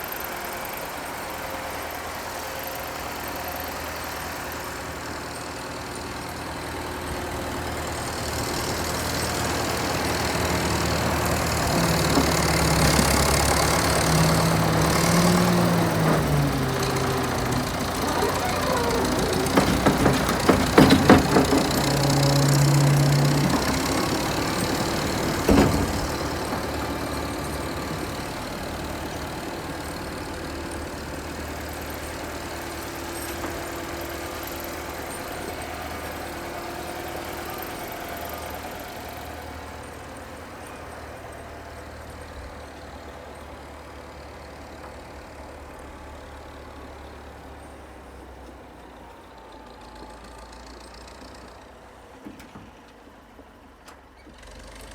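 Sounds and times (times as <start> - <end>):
vehicle engine running: 0.0 - 48.4.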